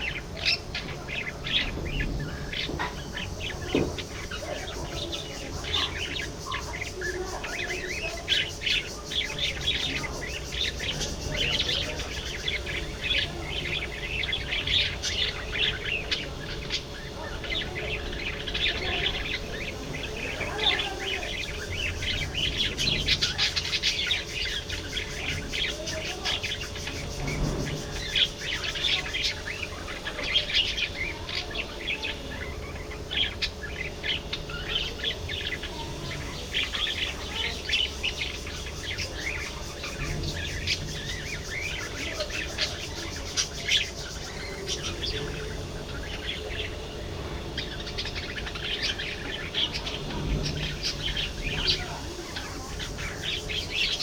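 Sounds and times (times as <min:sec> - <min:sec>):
budgerigars chattering: 0:00.0 - 0:54.0
steady low hum: 0:00.0 - 0:54.0.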